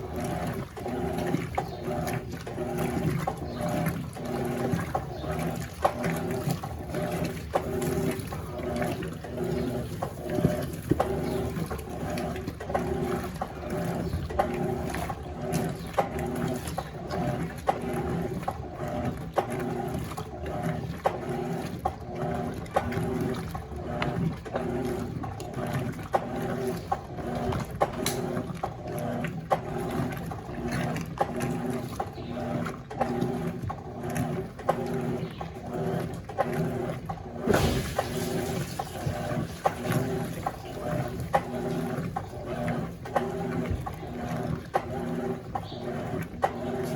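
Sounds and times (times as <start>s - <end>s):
washing machine motor pulsing: 0.0s - 46.9s
water sloshing in tub: 0.0s - 46.9s.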